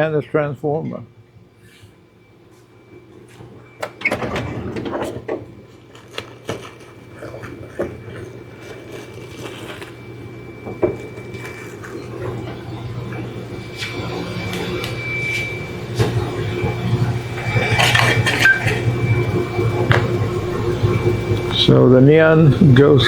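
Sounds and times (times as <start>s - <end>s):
low hum: 1.0s - 23.0s.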